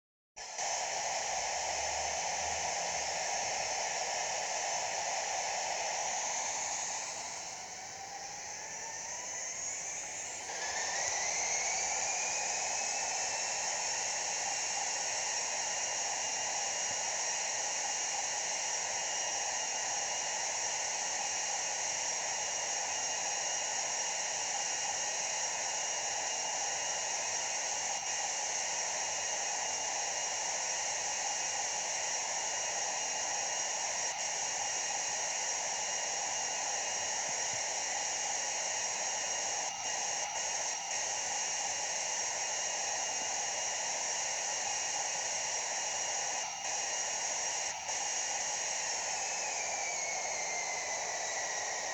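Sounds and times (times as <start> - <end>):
high fan whine: 0.4 - 20.5, 27.1 - 51.9.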